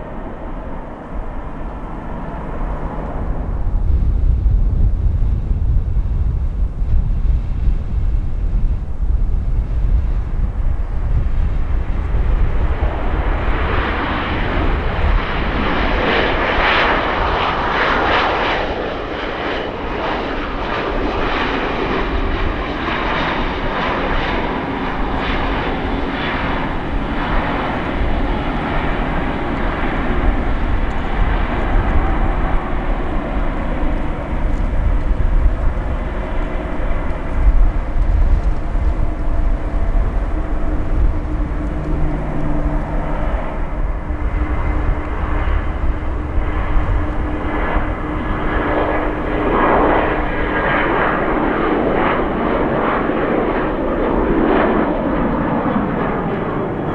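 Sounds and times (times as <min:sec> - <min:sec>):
jet airliner engines passing: 0:00.0 - 0:56.9
wind buffeting microphone: 0:00.0 - 0:56.9.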